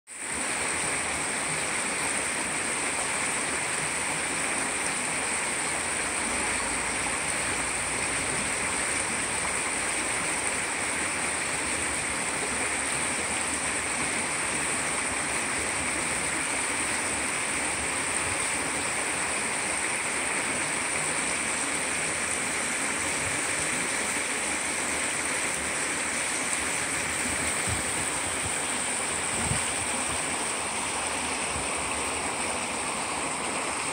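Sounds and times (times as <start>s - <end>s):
river flowing over stones: 0.1s - 33.9s.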